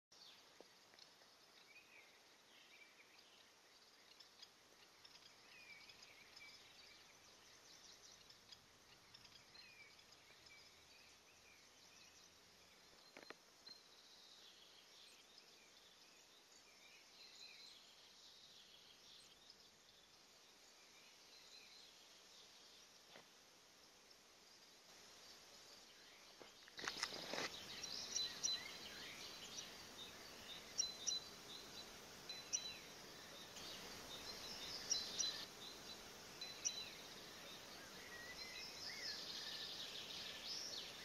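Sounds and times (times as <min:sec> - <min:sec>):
small birds chirping: 0:00.1 - 0:41.0.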